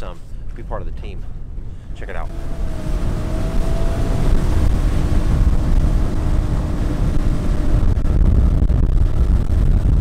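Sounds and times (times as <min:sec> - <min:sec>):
outboard motor rumbling: 0:01.0 - 0:10.0.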